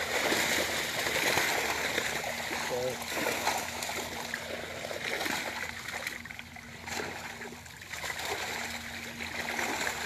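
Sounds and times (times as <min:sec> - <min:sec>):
splashing in muddy pond water: 0:00.0 - 0:10.0.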